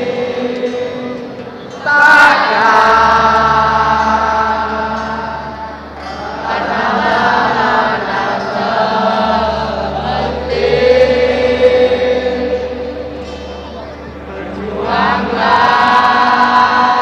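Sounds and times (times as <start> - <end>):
crowd singing a chant: 0.0 - 17.0.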